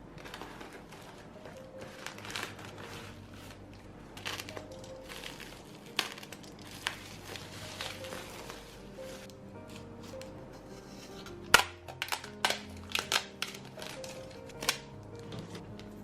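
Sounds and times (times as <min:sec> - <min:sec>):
packaging crinkling and rustling: 0:00.0 - 0:10.4, 0:11.1 - 0:16.0
soft background music: 0:00.0 - 0:16.0.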